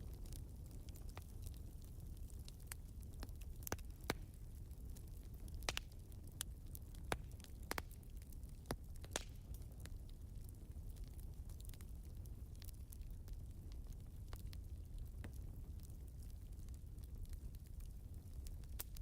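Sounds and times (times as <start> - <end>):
fire pops: 0.0 - 19.0
wood fire crackling: 0.0 - 19.0.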